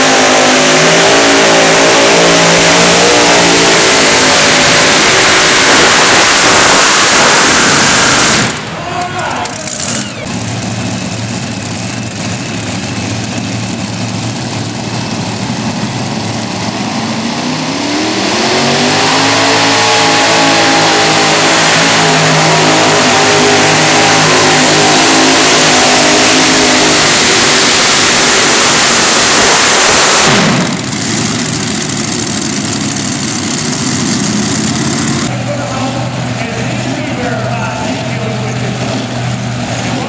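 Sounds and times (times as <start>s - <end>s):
tractor engine revving: 0.0s - 40.0s.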